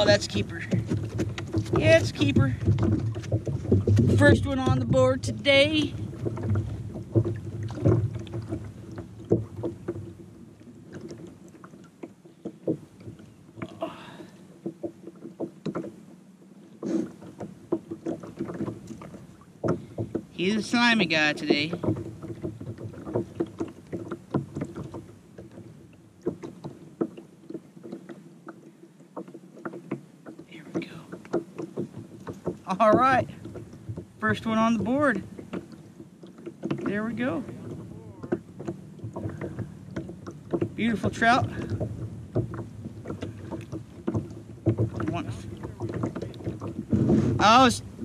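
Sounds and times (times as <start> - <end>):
light knocks and clicks: 0.0 - 13.8, 14.6 - 48.0
water lapping against kayak hull: 0.0 - 48.0.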